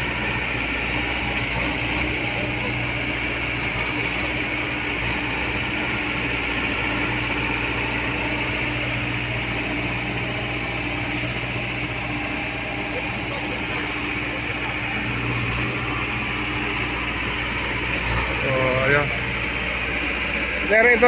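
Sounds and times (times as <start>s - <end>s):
heavy machinery droning: 0.0s - 21.0s.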